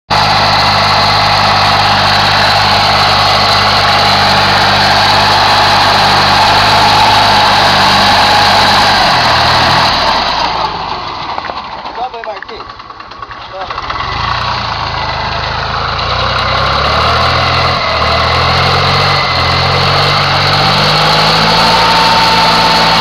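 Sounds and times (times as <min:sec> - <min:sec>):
tractor diesel engine under load: 0:00.1 - 0:23.0.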